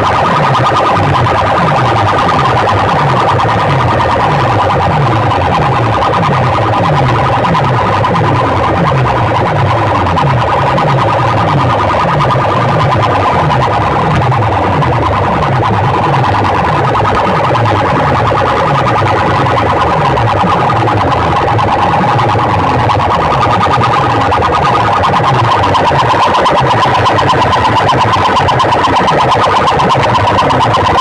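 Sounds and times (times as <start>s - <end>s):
distorted electronic dance music: 0.0s - 31.0s.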